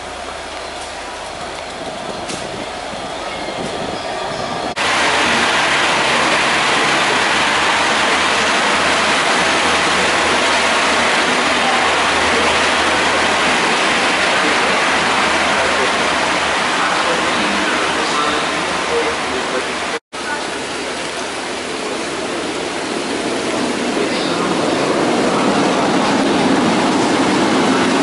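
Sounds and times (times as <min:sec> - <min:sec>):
train wheels rushing on rails: 0:00.0 - 0:20.8, 0:21.6 - 0:28.0
station background: 0:02.5 - 0:28.0.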